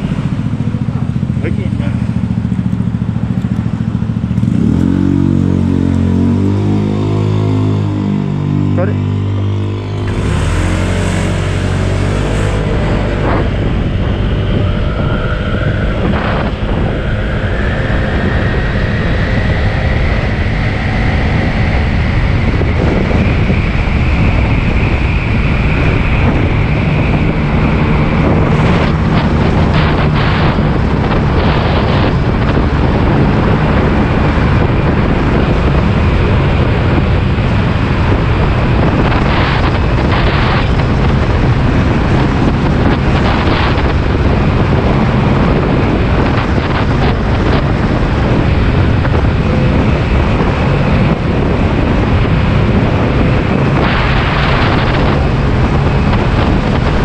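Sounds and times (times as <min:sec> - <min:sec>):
road noise: 0:00.0 - 0:57.0
scooter engine hum: 0:00.0 - 0:57.0
wind on microphone: 0:00.0 - 0:57.0.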